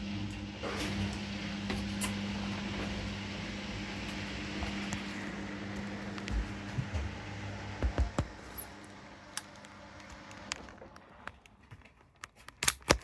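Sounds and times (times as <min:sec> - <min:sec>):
washing machine humming: 0:00.0 - 0:11.5.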